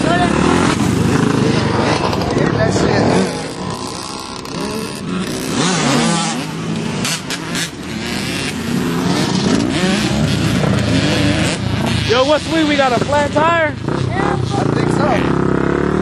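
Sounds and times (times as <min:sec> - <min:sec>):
off-road vehicle engines revving: 0:00.0 - 0:16.0.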